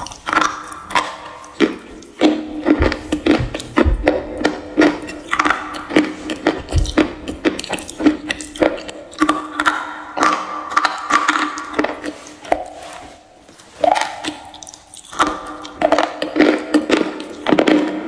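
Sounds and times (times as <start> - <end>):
stone crunching when chewed: 0.0 - 18.0.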